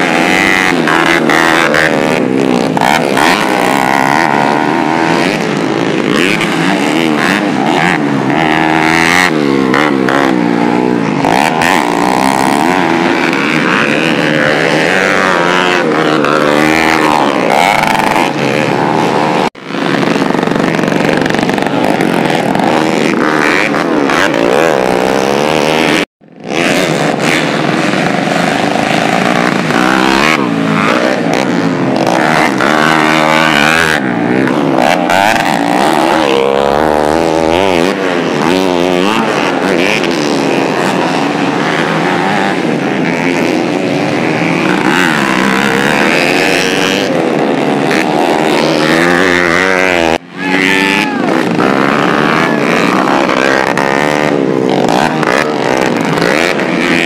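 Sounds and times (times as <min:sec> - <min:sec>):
motocross bikes revving: 0:00.0 - 0:57.0.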